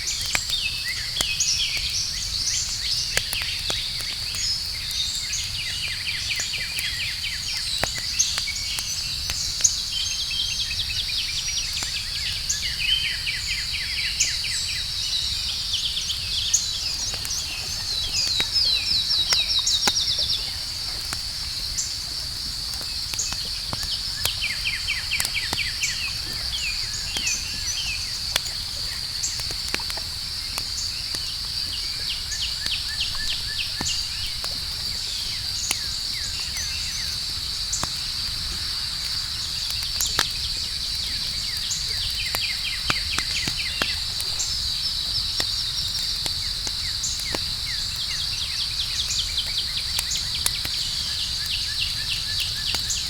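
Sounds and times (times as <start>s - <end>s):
campfire crackling and popping: 0.0s - 53.0s
crickets chirping: 0.0s - 53.0s.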